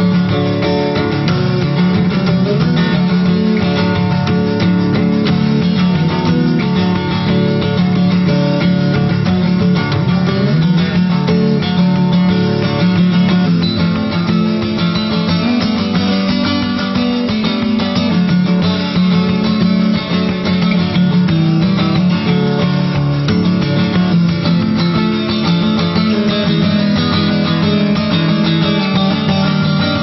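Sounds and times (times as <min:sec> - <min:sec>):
guitar music: 0:00.0 - 0:30.0.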